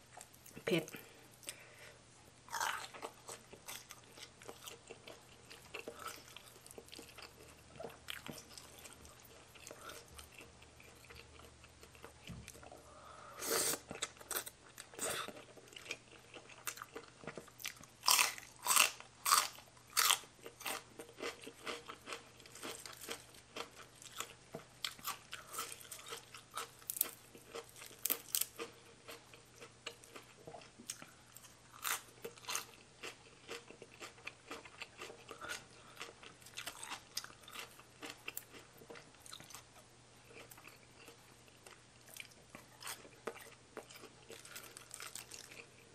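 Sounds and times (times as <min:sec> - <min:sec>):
person chewing crunchy salad: 0:00.1 - 0:45.9.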